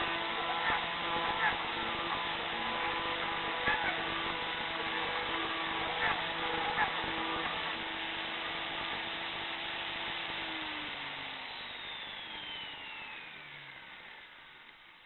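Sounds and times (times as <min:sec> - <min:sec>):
cnc machine whirring: 0:00.0 - 0:15.0
whine falling in pitch: 0:00.0 - 0:15.0.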